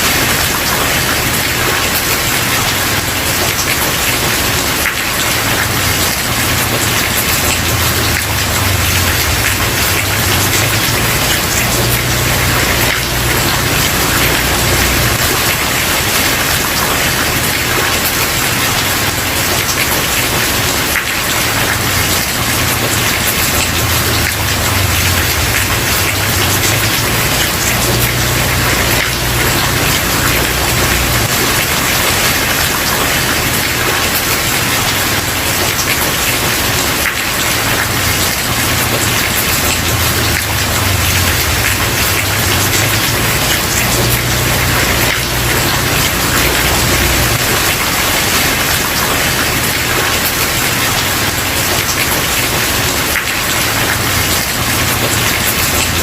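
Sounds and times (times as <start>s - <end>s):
rain on wooden porch: 0.0s - 56.0s.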